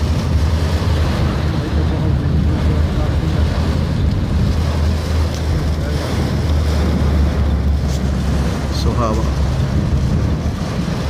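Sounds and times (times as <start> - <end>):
rain hissing on car: 0.0 - 11.0
road and engine rumble: 0.0 - 11.0.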